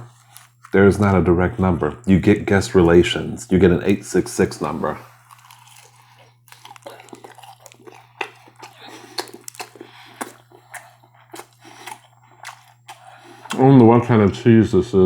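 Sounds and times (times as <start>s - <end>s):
wet chewing and smacking: 0.0s - 1.2s, 2.0s - 14.0s
steady low hum: 0.0s - 15.0s.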